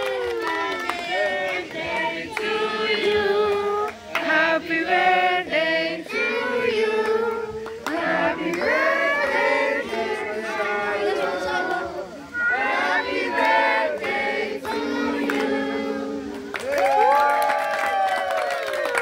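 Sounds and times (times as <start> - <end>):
group singing birthday song: 0.0 - 16.7.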